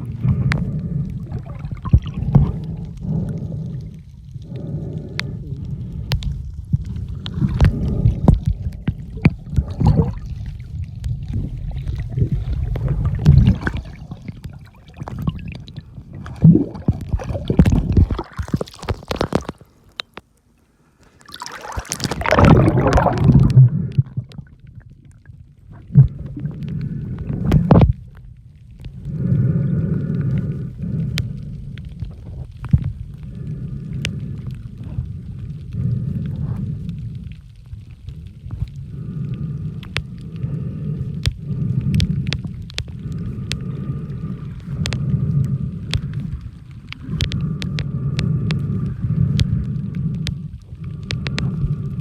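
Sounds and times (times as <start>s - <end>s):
muffled underwater sloshing: 0.0s - 52.0s.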